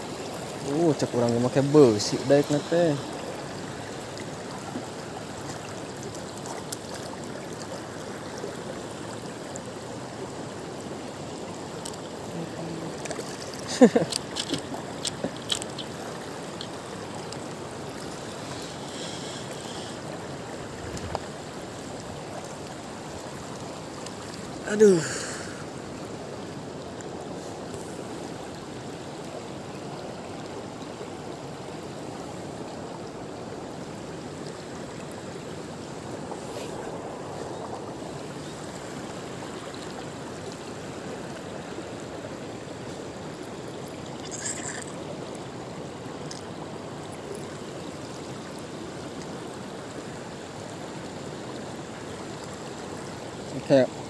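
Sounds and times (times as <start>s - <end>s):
river rushing over stones: 0.0s - 54.0s.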